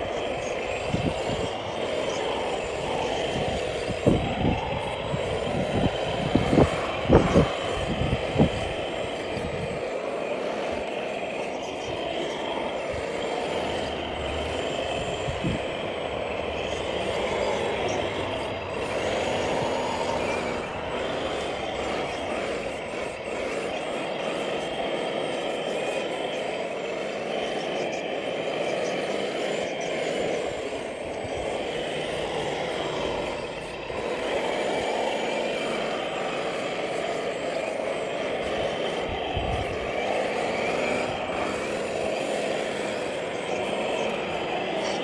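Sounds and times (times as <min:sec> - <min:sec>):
toy wheel loader mechanical drone: 0:00.0 - 0:45.0.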